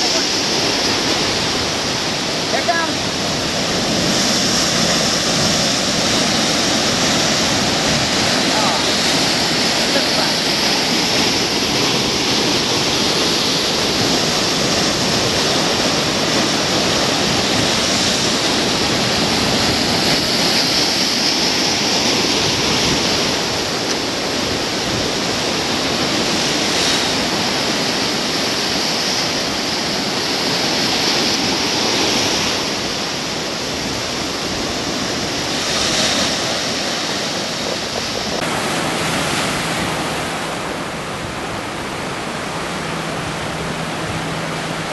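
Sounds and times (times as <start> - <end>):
surf breaking on rocks: 0.0 - 44.9.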